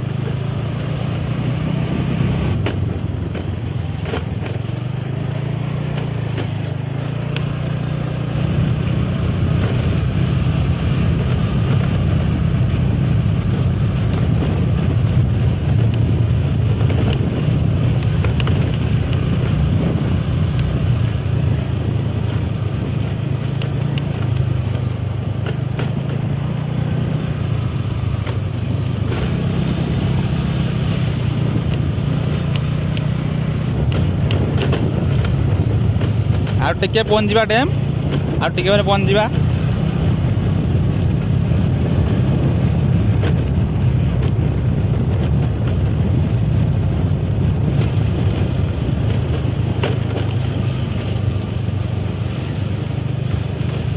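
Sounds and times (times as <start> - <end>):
road noise: 0.0 - 53.9
vehicle engine droning: 0.0 - 53.9.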